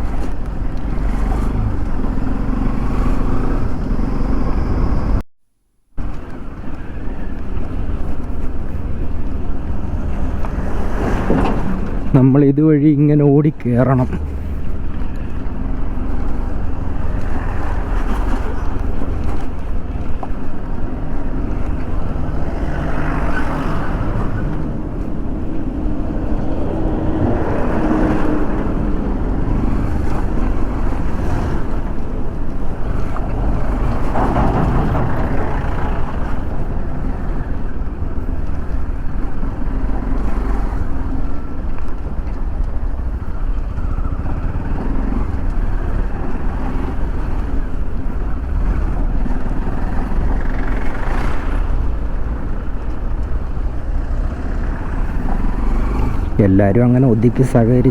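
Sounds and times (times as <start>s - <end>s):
wind rumble on microphone: 0.0s - 5.2s, 6.0s - 12.3s, 13.6s - 57.9s.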